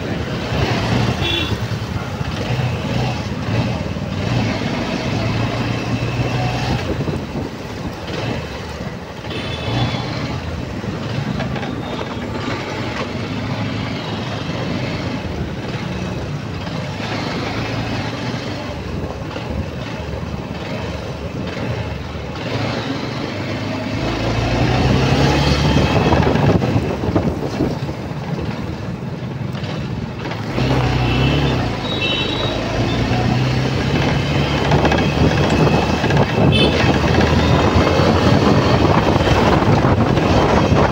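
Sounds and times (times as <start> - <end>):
road and wind noise: 0.0 - 40.9
truck and car engines: 0.0 - 40.9.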